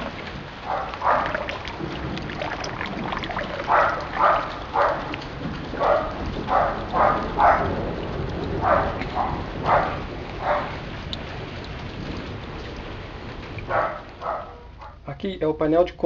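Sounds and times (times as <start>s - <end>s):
water pouring into a barrel: 0.0s - 14.3s.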